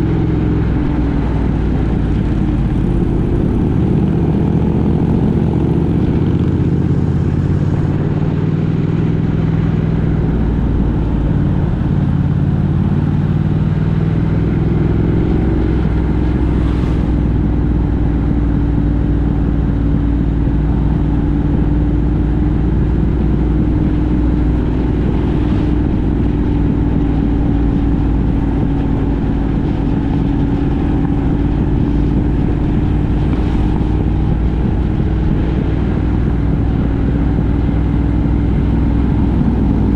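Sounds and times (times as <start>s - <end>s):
road noise: 0.0s - 39.9s
vehicle engine drone: 0.0s - 39.9s.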